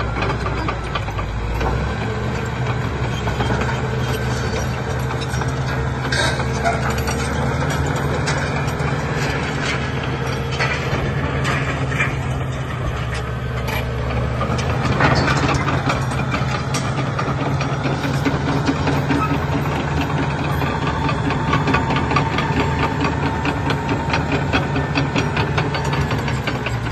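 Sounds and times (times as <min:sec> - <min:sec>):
diesel engine running: 0:00.0 - 0:26.9
steel tracks clanking over rock: 0:00.0 - 0:26.9.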